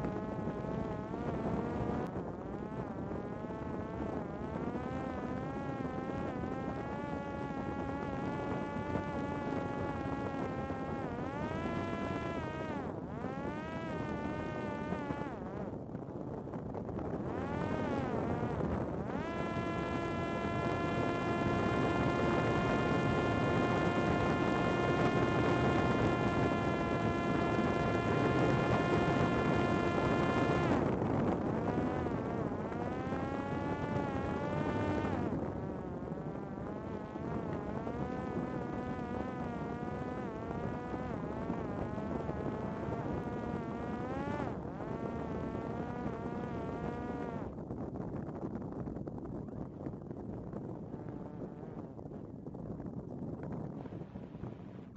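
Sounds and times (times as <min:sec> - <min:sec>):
drone propeller motor whining: 0:00.0 - 0:15.7, 0:16.6 - 0:47.5, 0:50.8 - 0:51.9.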